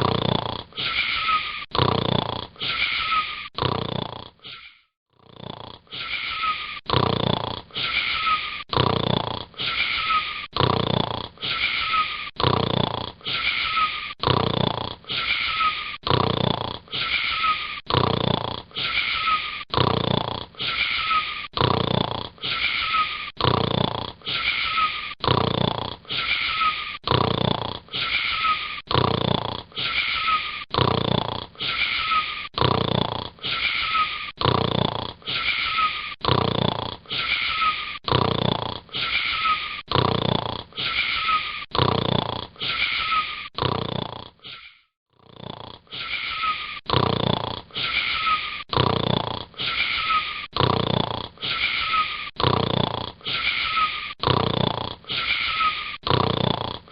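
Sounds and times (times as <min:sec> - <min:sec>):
boy snoring with whistling note: 0:00.0 - 0:56.9.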